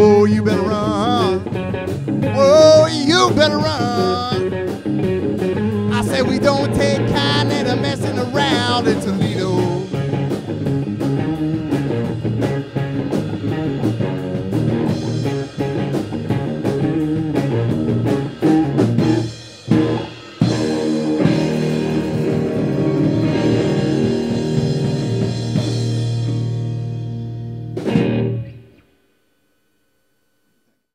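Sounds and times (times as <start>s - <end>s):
rock band playing: 0.0s - 28.8s
held guitar chords: 0.0s - 30.1s.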